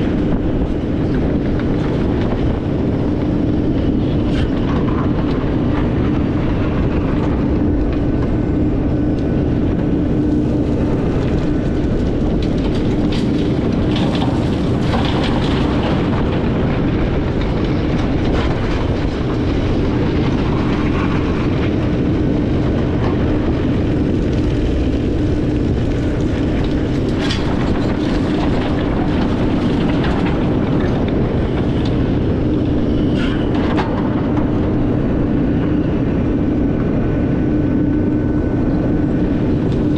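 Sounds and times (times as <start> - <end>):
excavator engine drone: 0.0 - 39.9.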